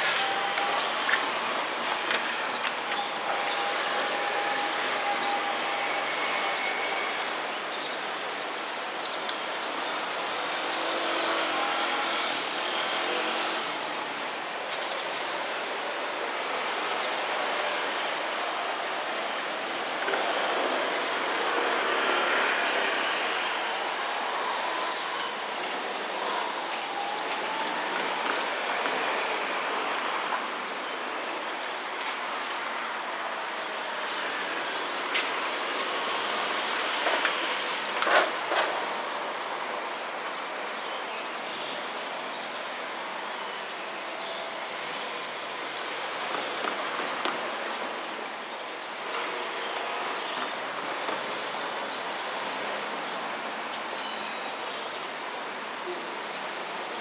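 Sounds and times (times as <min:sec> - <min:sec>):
cars passing on road: 0:00.0 - 0:57.0.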